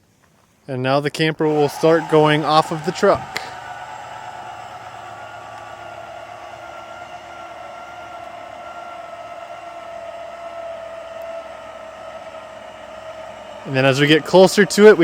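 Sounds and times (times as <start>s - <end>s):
electric jack motor whine: 1.5s - 15.0s.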